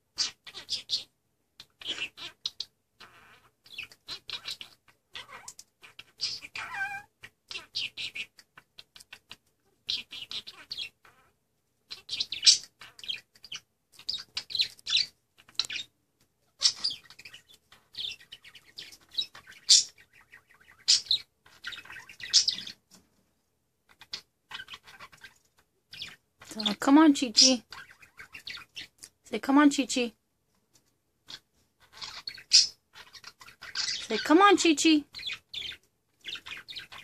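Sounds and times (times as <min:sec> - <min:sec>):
budgerigar chattering and warbling: 0:00.2 - 0:15.9, 0:16.5 - 0:22.8, 0:23.9 - 0:29.0, 0:31.3 - 0:37.0.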